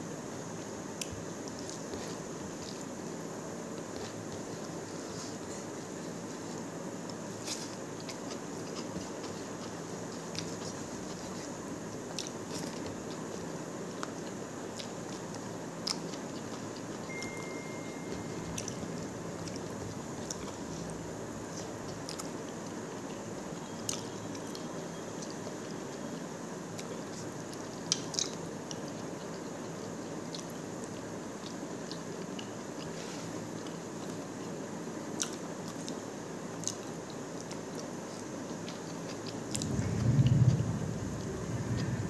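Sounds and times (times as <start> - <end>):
person chewing food: 0.6 - 26.0, 26.7 - 34.3, 35.2 - 39.8.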